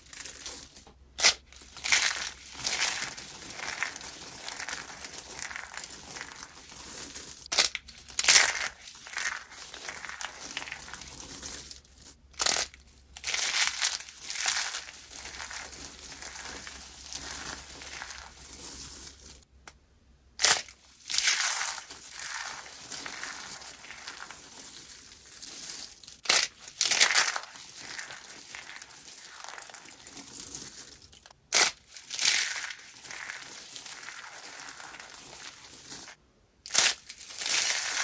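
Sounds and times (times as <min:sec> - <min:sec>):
dry soap crunching: 0:01.2 - 0:19.3, 0:20.4 - 0:38.0.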